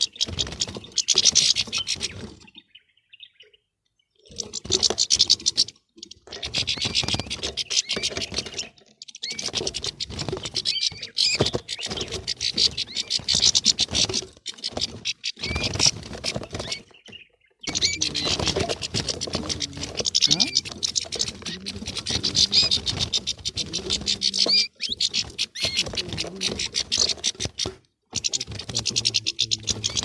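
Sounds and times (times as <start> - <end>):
finches twittering and chirping: 0.0 - 30.0.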